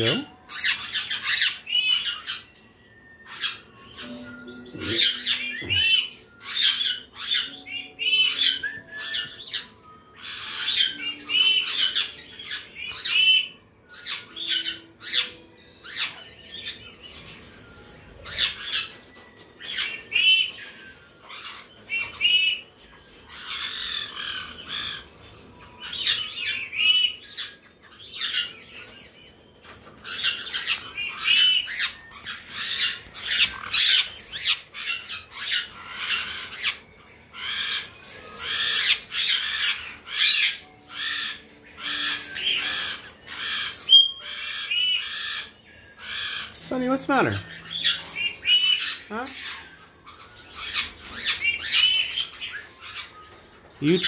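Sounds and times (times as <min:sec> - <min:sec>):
parrots squawking: 0:00.0 - 0:54.0.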